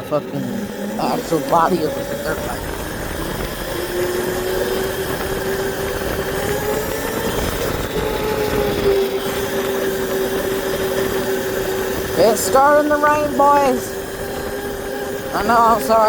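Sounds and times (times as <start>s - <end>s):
electric motor whining: 0.0s - 16.0s
steady rushing noise: 0.3s - 16.0s.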